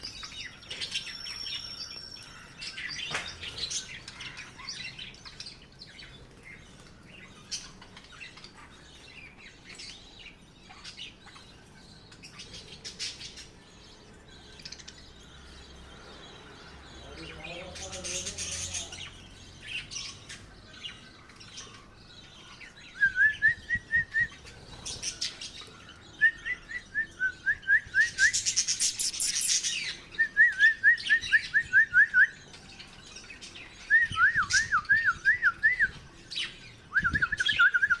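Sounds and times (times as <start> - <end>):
lovebirds chirping: 0.0 - 38.0.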